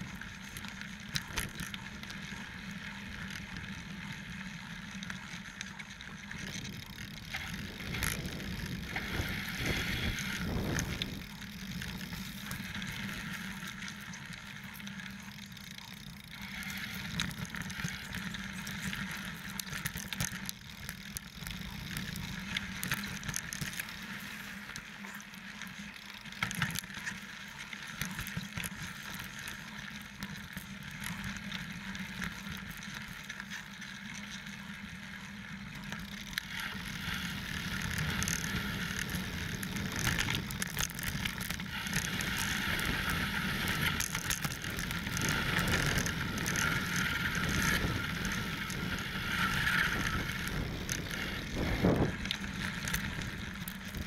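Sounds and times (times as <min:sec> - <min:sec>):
bike tyres rolling on dirt: 0:00.0 - 0:54.0.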